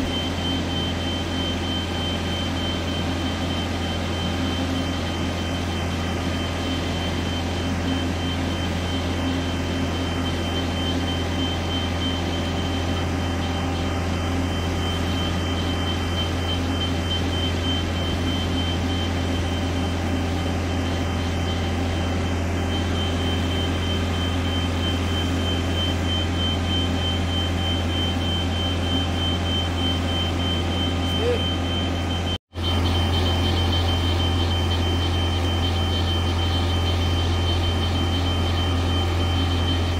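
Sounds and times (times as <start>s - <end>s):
diesel engine low drone: 0.0s - 39.9s
thin high whine: 0.0s - 39.9s.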